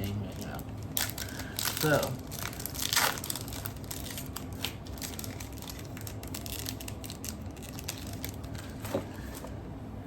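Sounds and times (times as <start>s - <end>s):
wrapper crinkling and tearing: 0.0s - 8.9s.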